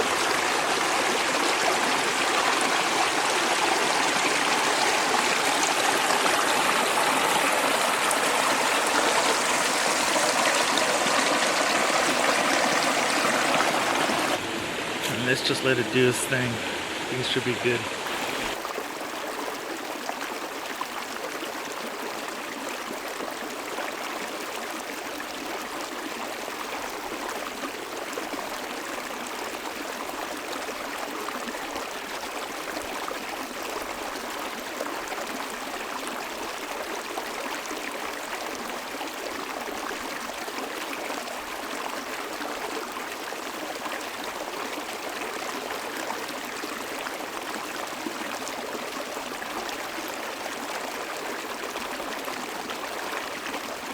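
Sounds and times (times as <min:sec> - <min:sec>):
stream water flowing: 0:00.0 - 0:53.9.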